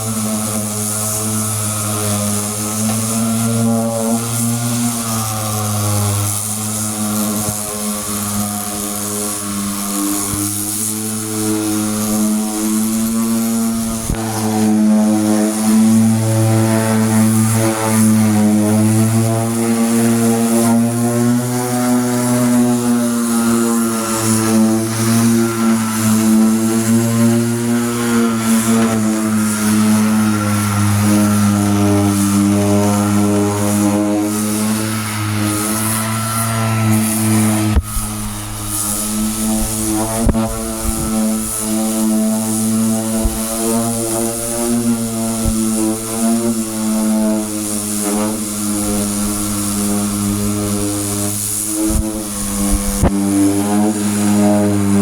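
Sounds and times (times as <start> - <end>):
power tool motor running: 0.0 - 55.0.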